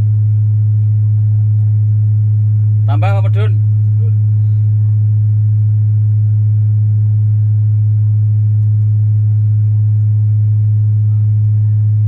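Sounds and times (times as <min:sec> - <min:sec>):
low test tone through subwoofers: 0:00.0 - 0:12.0.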